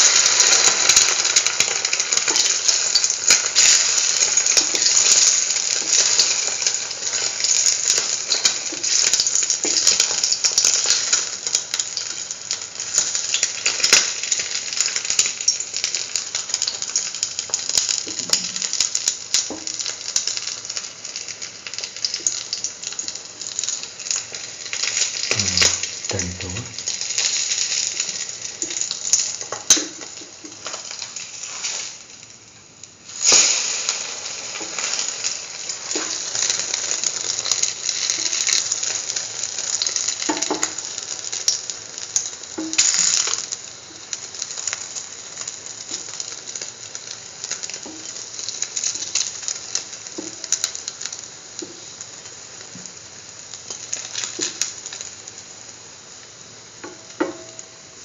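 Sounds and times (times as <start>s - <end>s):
bread frying in hot oil: 0.0s - 58.0s.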